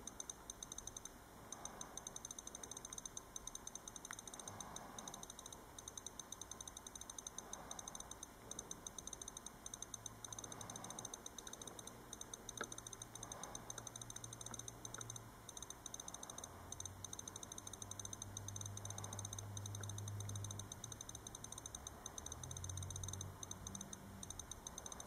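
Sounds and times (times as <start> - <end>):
click wheel ticking rapidly: 0.0 - 25.0.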